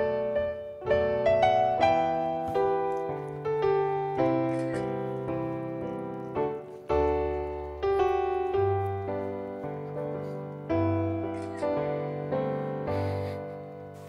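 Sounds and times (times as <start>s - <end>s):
gentle piano chords: 0.0s - 14.0s.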